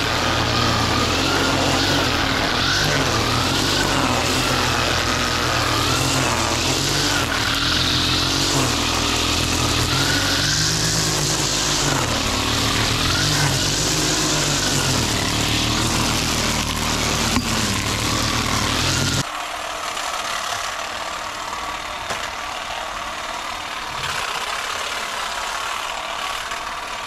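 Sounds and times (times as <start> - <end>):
string trimmer engine running: 0.0 - 27.0.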